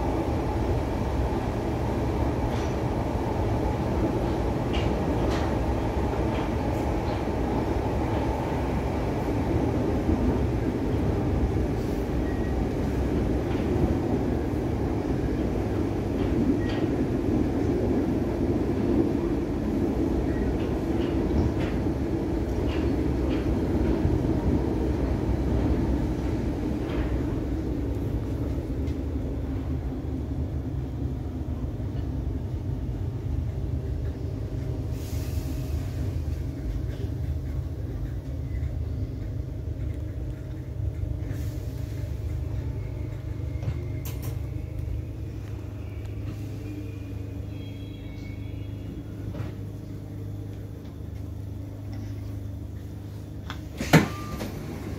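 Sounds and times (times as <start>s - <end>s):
train rumbling from inside carriage: 0.0s - 54.9s.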